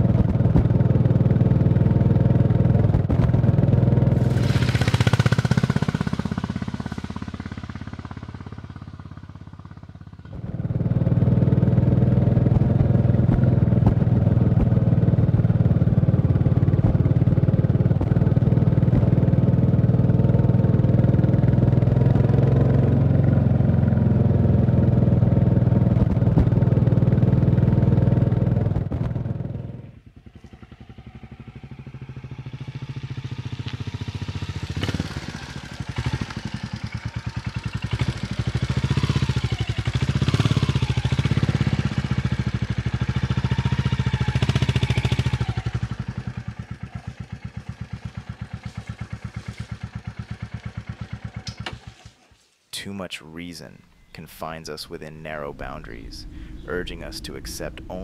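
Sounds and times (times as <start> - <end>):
motorcycle engine running: 0.0 - 52.3.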